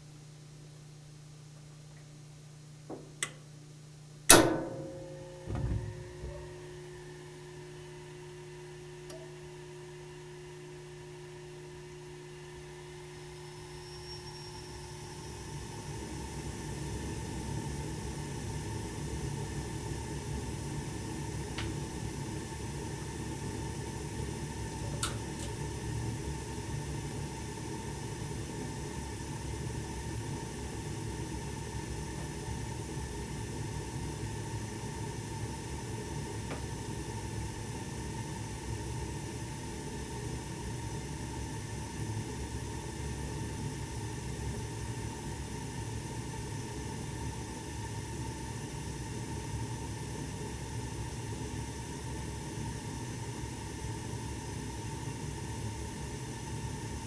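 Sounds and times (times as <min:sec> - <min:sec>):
gas furnace running: 0:00.4 - 0:57.0.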